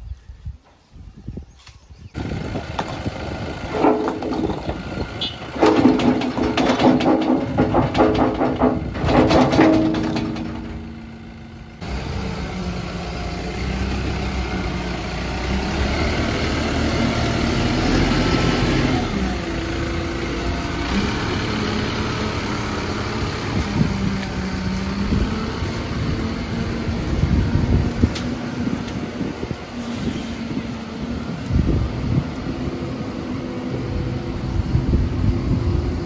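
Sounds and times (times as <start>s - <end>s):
diesel engine running at low revs: 2.1s - 36.0s.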